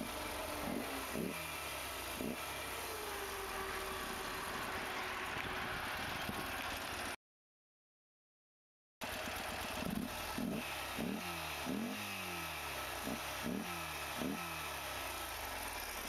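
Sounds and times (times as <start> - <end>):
motorcycle engine running: 0.0 - 7.1, 9.0 - 16.0.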